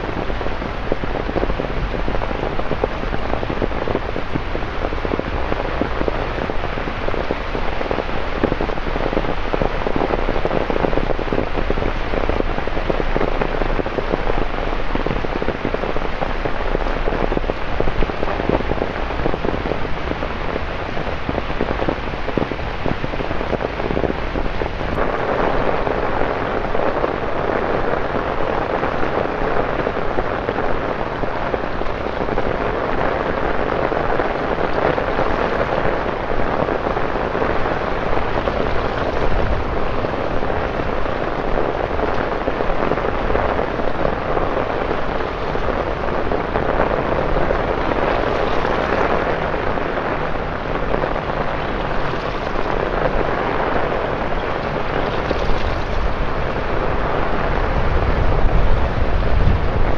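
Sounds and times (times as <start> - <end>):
heavy rain on wet paving: 0.0 - 59.9.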